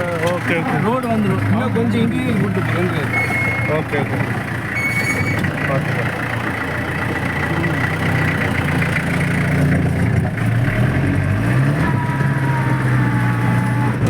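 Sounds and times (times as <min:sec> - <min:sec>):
jeep engine running: 0:00.0 - 0:14.0.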